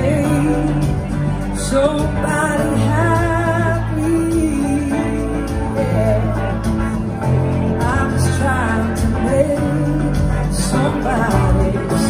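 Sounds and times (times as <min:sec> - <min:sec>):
drums: 0:00.0 - 0:12.0
lead melody with vibrato: 0:00.0 - 0:12.0
live rock band playing: 0:00.0 - 0:12.0.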